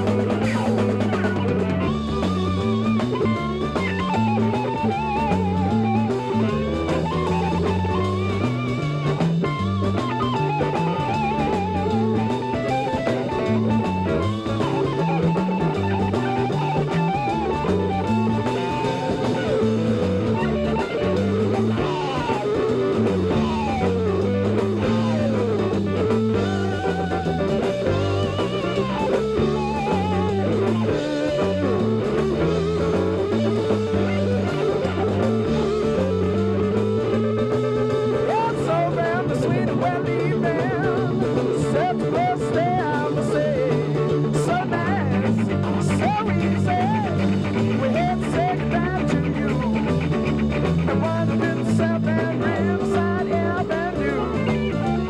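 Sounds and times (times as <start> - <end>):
drum kit: 0.0 - 55.0
electric guitar solo: 0.0 - 55.0
repeating bass line: 0.0 - 55.0.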